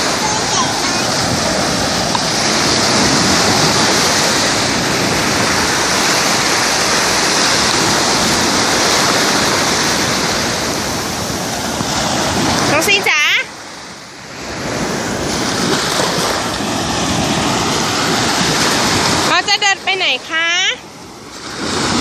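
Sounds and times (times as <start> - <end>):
sea waves washing ashore: 0.0 - 22.0.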